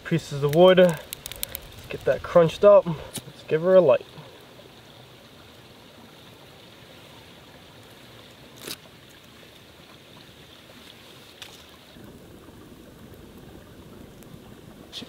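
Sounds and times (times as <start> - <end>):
flowing creek: 0.0 - 15.0.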